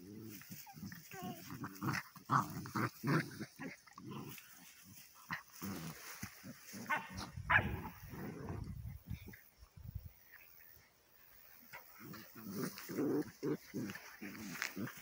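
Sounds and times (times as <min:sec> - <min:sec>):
puppies growling and grunting: 0:00.0 - 0:09.4, 0:11.7 - 0:15.0.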